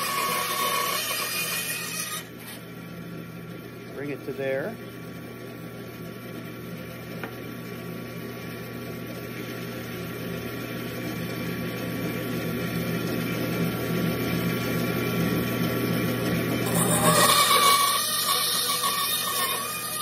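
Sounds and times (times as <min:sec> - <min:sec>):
bandsaw motor hum: 0:00.0 - 0:20.0.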